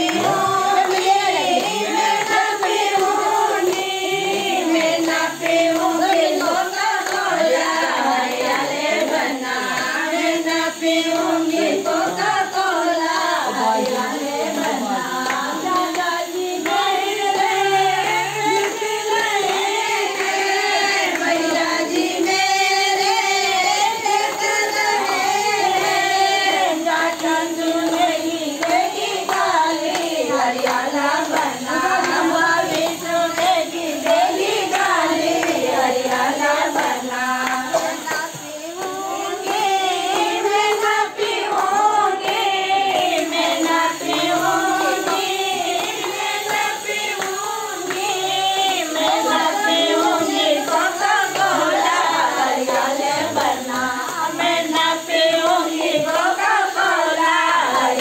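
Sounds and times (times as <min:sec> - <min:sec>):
women singing in unison: 0:00.0 - 0:58.0.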